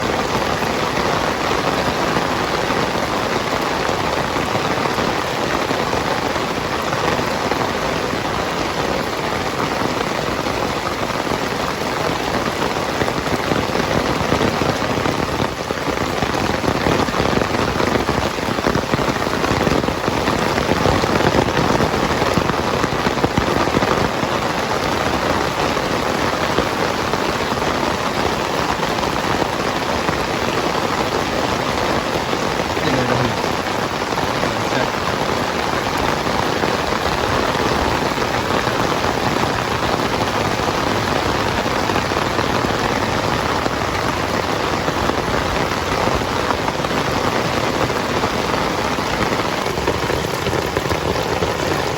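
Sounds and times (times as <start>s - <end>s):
heavy rain: 0.0s - 51.9s.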